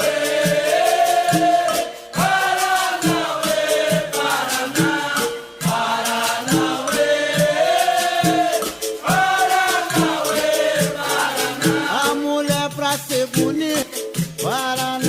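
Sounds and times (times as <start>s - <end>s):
voices singing a chorus: 0.0s - 12.5s
steady percussion beat: 0.0s - 15.0s.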